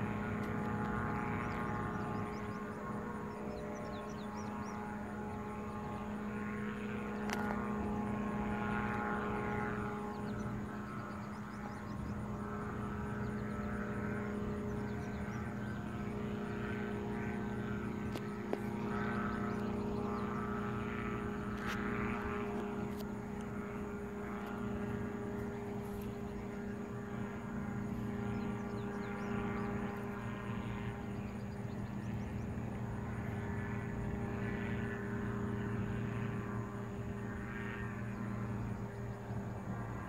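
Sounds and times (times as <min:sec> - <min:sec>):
engine and propeller droning: 0:00.0 - 0:40.0.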